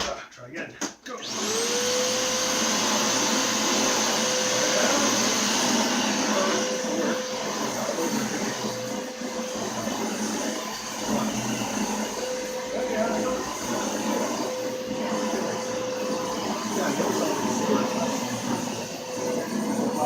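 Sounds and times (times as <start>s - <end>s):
vacuum cleaner running: 1.1s - 20.0s.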